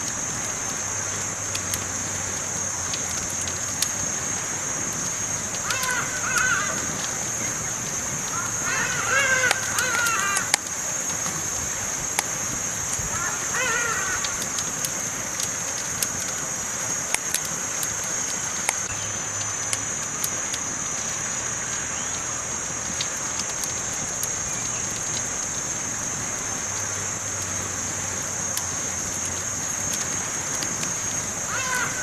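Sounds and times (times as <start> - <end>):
campfire wood crackling: 0.0 - 32.0
steady fire hiss: 0.0 - 32.0.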